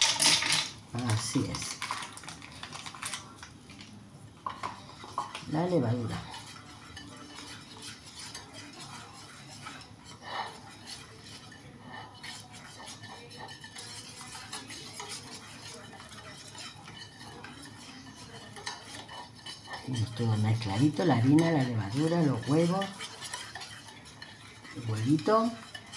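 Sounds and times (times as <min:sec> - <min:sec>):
utensil scraping batter in bowl: 0:00.0 - 0:25.9.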